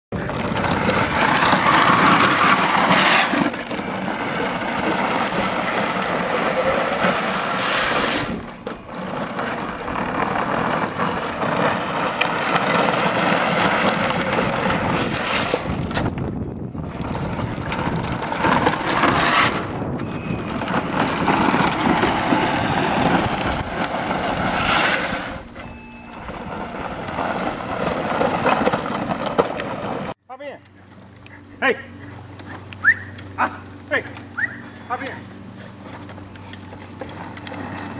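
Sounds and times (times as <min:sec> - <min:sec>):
toy car wheels grinding on asphalt: 0:00.1 - 0:30.2, 0:30.8 - 0:37.9.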